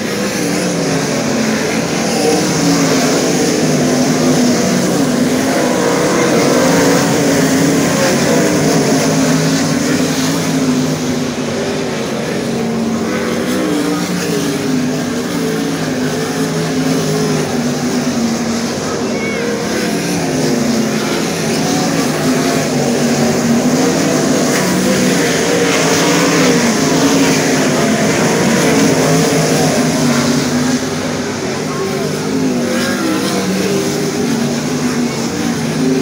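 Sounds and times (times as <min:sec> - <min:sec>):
racing car engines: 0:00.0 - 0:36.0.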